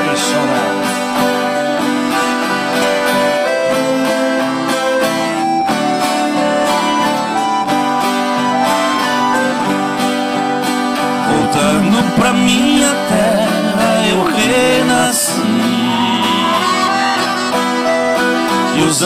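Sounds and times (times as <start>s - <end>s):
accordion chords: 0.0s - 19.0s
acoustic guitars strumming: 0.0s - 19.0s.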